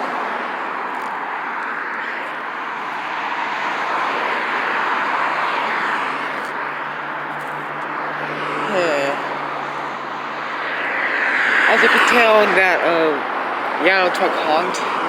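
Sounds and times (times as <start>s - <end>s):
highway traffic passing: 0.0s - 15.0s.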